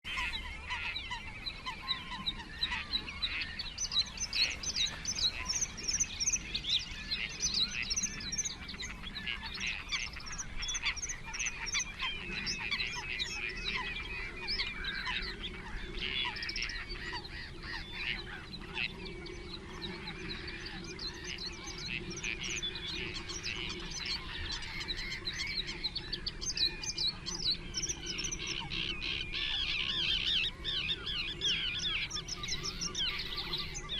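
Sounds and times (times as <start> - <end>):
birds chirping and singing: 0.0 - 33.9.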